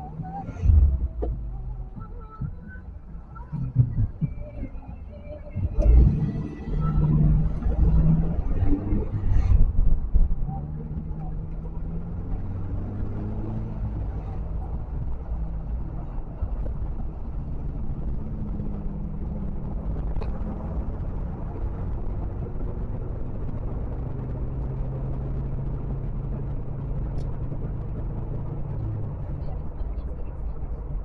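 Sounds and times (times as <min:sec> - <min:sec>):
road and wind noise: 0:00.0 - 0:31.0
vehicle engine humming: 0:00.0 - 0:31.0.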